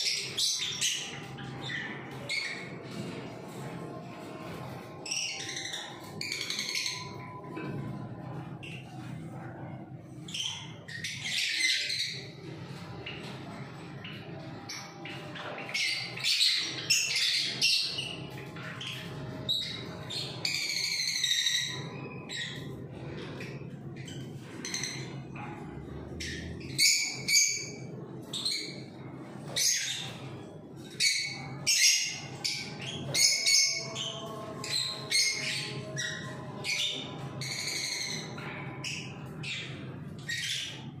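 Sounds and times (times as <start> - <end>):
cage birds chirping and squawking: 0.0 - 41.0.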